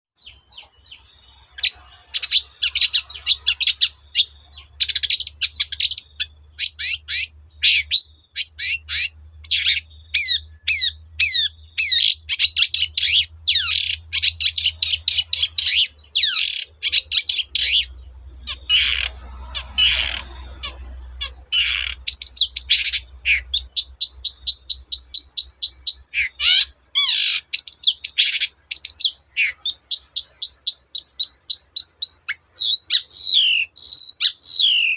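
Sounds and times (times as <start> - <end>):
shrike singing chirps and trills: 0.2 - 34.9.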